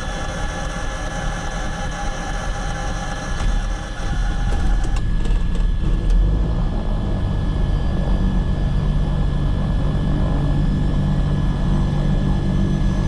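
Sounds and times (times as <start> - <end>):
aircraft engine running: 0.0 - 13.0.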